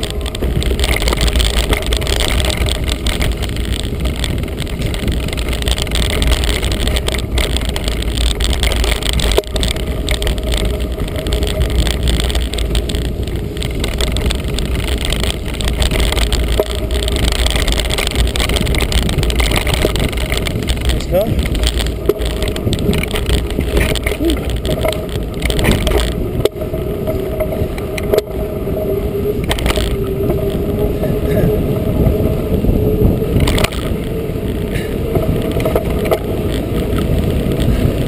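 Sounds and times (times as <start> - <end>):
bike rattling over stones: 0.0 - 38.0
tyres rumbling on gravel: 0.0 - 38.0.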